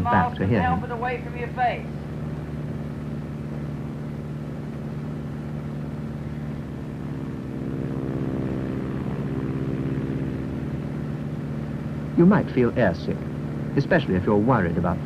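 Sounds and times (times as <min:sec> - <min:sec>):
piston aircraft engine droning: 0:00.0 - 0:15.0.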